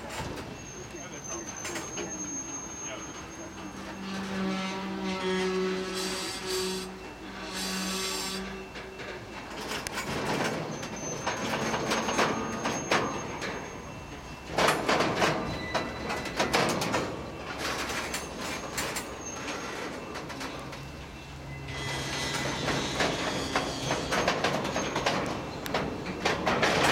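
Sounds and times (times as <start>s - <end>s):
high wheel squeal: 0.0s - 26.9s
train wheels clanking over rails: 0.0s - 26.9s.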